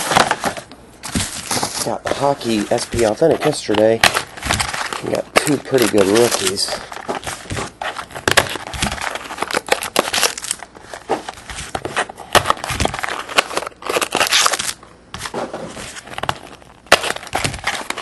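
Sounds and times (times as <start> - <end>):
plastic shrink-wrap crinkling: 0.0 - 18.0.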